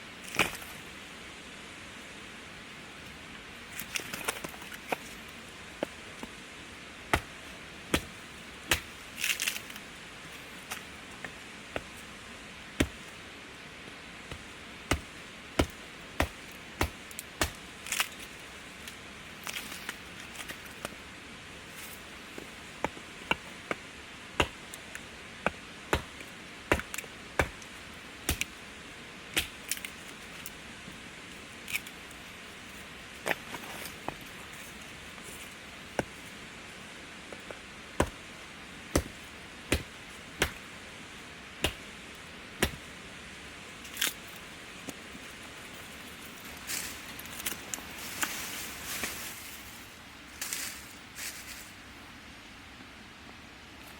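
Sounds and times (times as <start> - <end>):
campfire crackling: 3.1 - 51.6.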